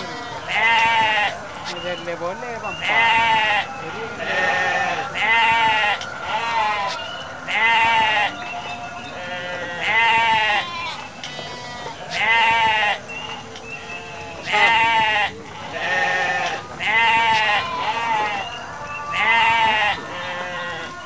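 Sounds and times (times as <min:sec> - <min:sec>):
sheep bleating: 0:00.0 - 0:01.7, 0:02.8 - 0:13.1, 0:14.1 - 0:18.5, 0:19.1 - 0:21.0.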